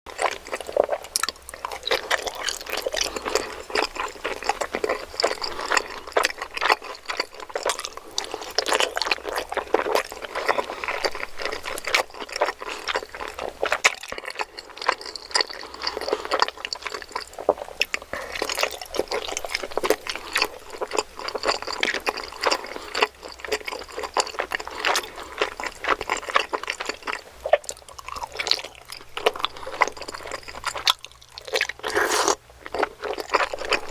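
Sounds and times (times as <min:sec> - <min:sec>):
wet chewing and mouth noises: 0:00.1 - 0:33.9.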